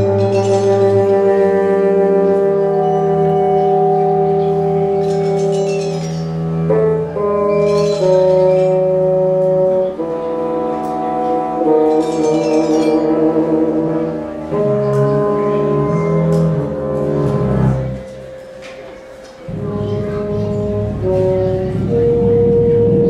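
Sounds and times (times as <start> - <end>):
orchestra playing sustained chords: 0.0 - 23.0.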